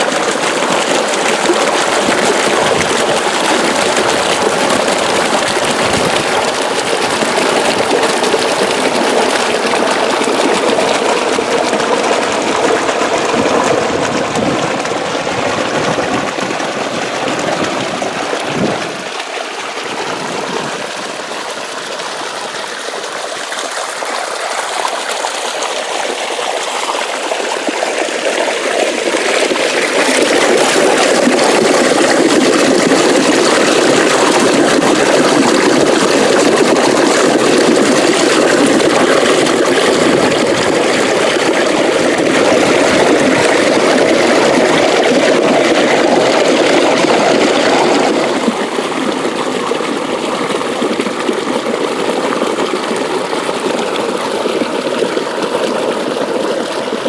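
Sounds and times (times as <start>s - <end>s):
water rushing along a ditch: 0.0s - 57.0s.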